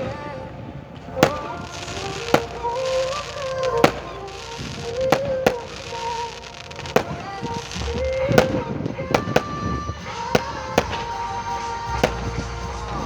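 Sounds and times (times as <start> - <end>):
crackling hiss: 0.0 - 13.0
fireworks bangs: 0.0 - 13.0.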